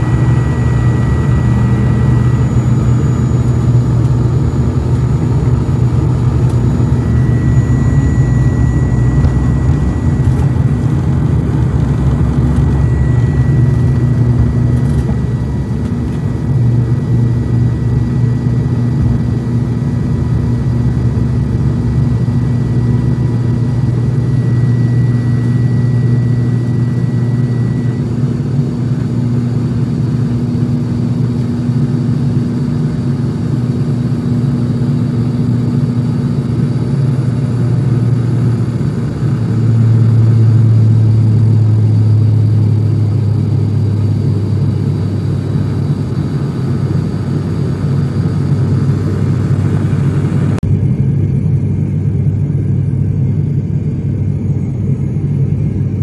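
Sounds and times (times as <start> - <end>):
thin high whine: 0.0 - 56.0
turboprop engines droning: 0.0 - 56.0.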